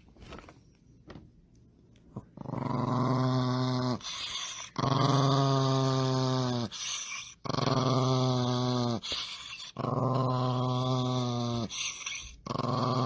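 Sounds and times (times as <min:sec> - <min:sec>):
small dog growling: 0:02.2 - 0:13.0.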